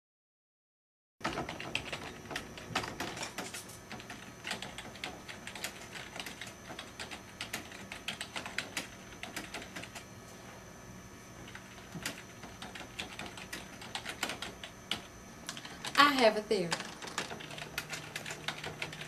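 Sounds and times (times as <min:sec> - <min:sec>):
typing on computer keyboard: 0:01.2 - 0:10.0, 0:11.5 - 0:19.0.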